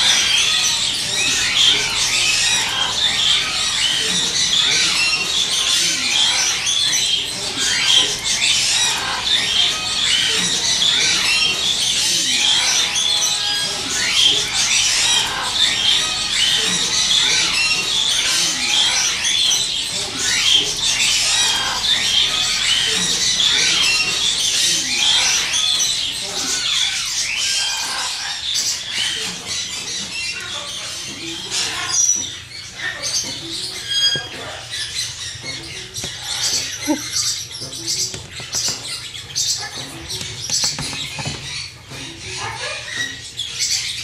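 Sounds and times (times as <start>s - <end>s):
parrots chirping and squawking: 0.0s - 44.0s.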